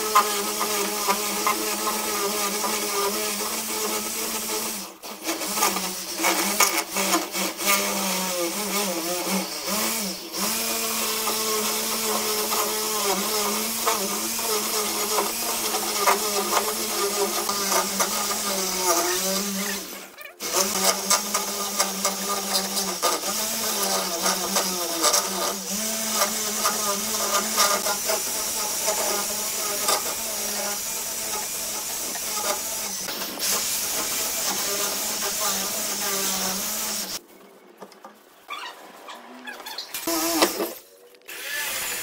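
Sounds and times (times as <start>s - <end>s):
electric drill boring wood: 0.0s - 37.2s, 40.0s - 42.0s.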